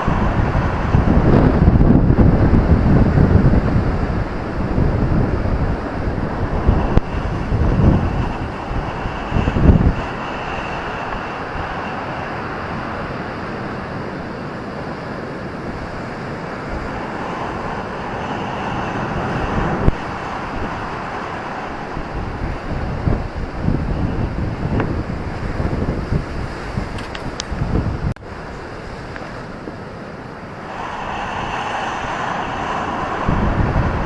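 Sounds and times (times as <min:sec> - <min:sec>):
ocean surf washing onto beach: 0:00.0 - 0:34.0
wind gusting on microphone: 0:00.0 - 0:34.0.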